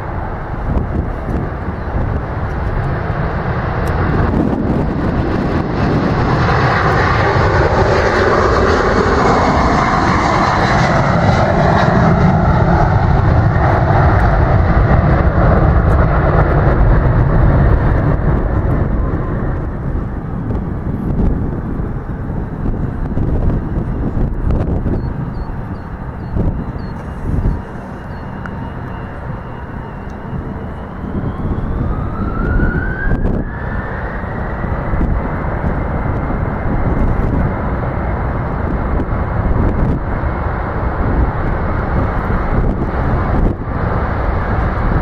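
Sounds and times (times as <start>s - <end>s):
jet engines at takeoff: 0.0s - 45.0s.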